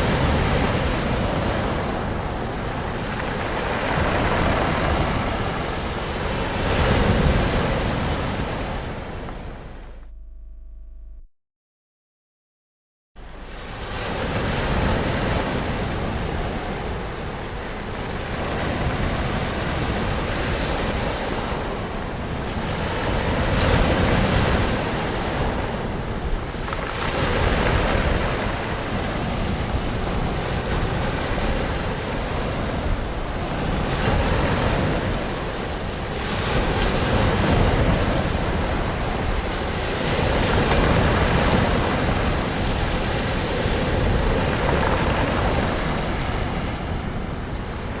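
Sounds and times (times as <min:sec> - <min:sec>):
ocean waves breaking: 0:00.0 - 0:10.0, 0:13.2 - 0:48.0.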